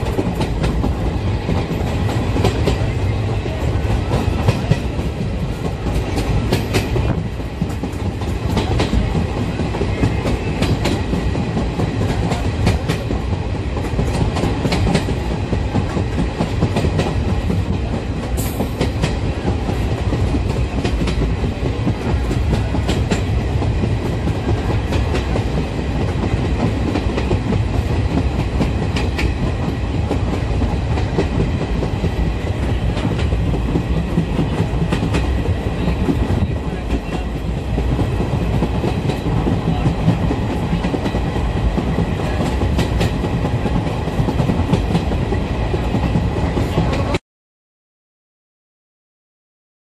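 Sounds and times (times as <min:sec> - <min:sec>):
rail joint clacks: 0:00.0 - 0:47.2
train wheels rumbling on track: 0:00.0 - 0:47.2.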